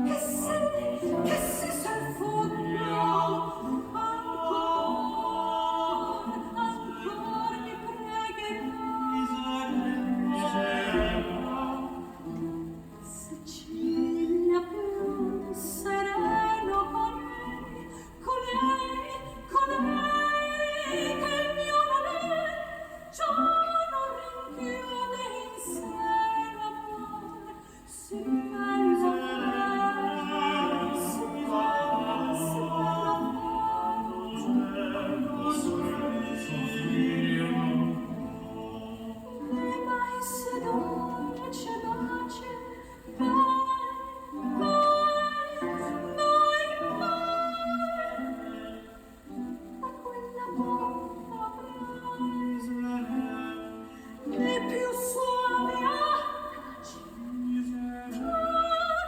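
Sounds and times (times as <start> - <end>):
operatic singing over speakers: 0.0 - 59.0.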